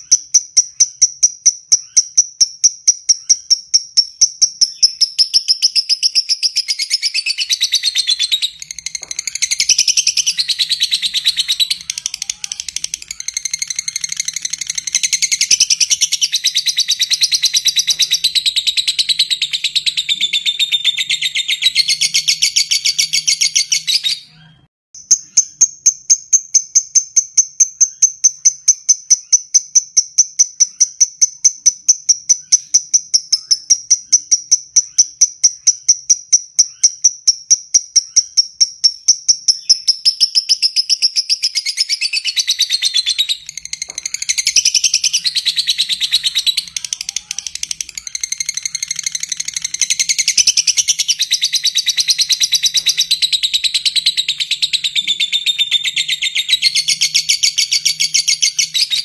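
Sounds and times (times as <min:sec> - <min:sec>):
lovebird chattering and chipping: 0:00.0 - 0:24.2, 0:25.0 - 0:59.0.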